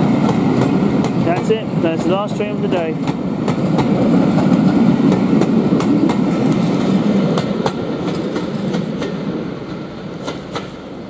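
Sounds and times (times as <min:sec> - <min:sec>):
train wheels clicking over rail joints: 0:00.0 - 0:10.8
train rumble: 0:00.0 - 0:11.0.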